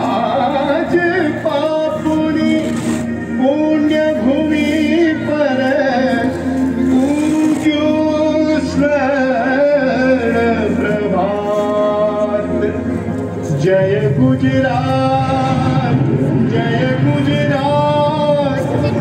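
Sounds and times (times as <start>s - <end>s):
instrumental backing music: 0.0s - 19.0s
man singing: 0.0s - 19.0s.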